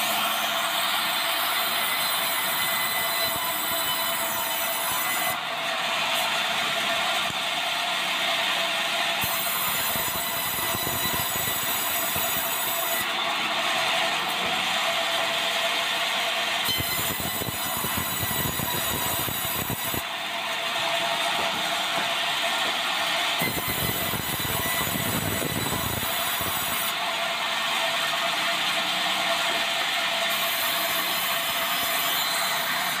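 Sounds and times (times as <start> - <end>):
saw cutting timber: 0.0 - 33.0.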